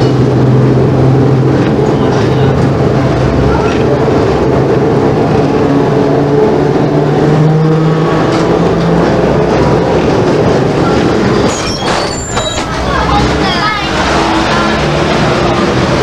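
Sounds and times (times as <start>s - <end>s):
electric tram running on track: 0.0s - 16.0s.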